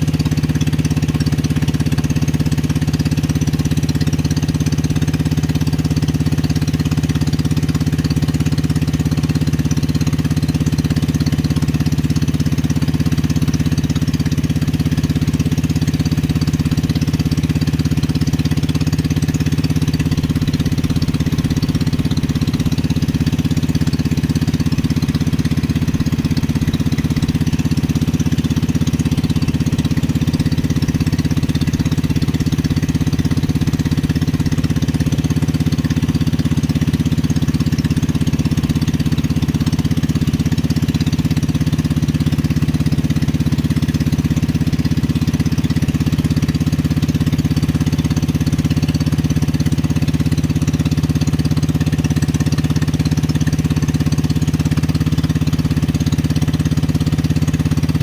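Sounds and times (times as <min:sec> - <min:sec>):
small boat engine knocking: 0:00.0 - 0:58.0.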